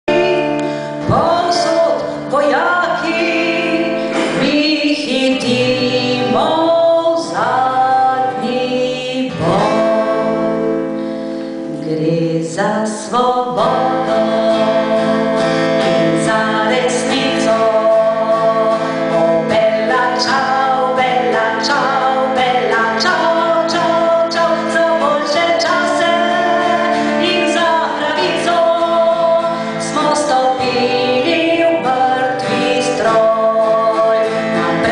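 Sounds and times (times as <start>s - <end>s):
acoustic guitar: 0.0s - 34.9s
woman singing into a microphone: 0.0s - 34.9s.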